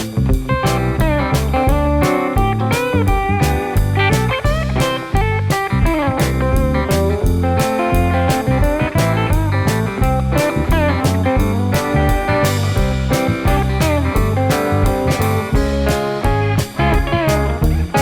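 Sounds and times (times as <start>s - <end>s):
blues guitar music with beat: 0.0s - 18.0s.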